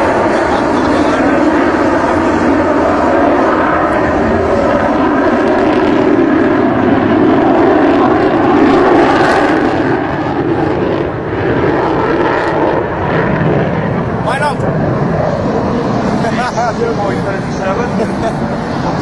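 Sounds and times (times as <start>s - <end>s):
jet engines in flight: 0.0s - 19.0s.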